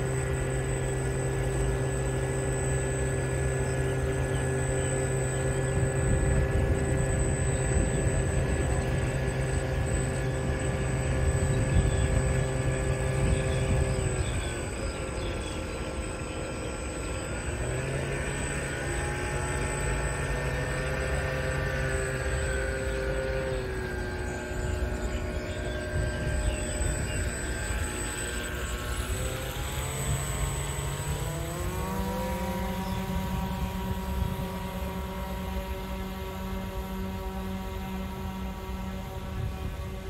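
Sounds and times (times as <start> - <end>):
electric motors whining: 0.0 - 40.0.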